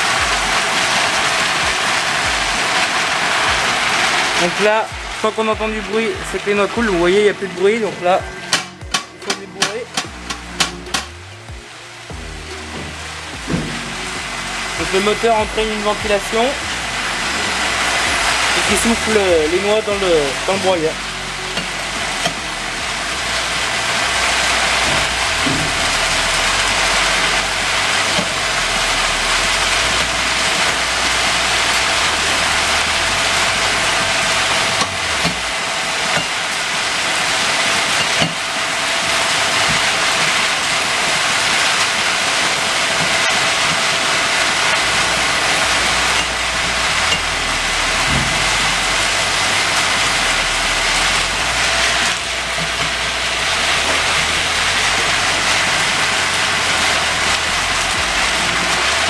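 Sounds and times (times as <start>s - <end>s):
fan blower hissing and whining: 0.0s - 59.0s.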